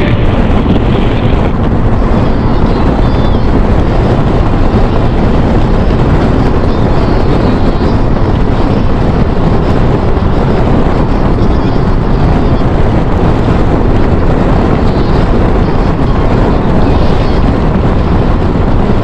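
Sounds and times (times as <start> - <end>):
motorcycle engine cruising: 0.0 - 19.0
wind rush: 0.0 - 19.0.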